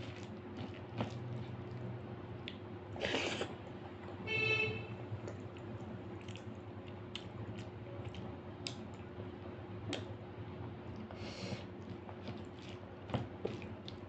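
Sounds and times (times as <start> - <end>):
chewing and mouth sounds: 0.0 - 4.1, 5.2 - 10.1, 10.9 - 14.0
wet squishing of food mixed by hand: 0.0 - 4.2, 5.2 - 14.0.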